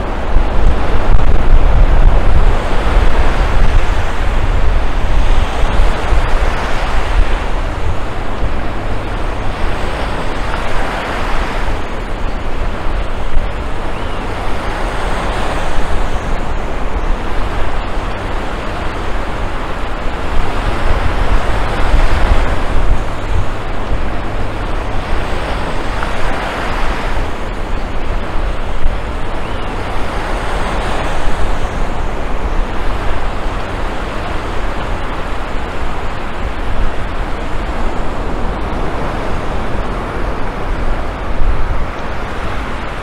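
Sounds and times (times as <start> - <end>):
ocean surf breaking: 0.0 - 43.0
wind on microphone: 0.0 - 43.0.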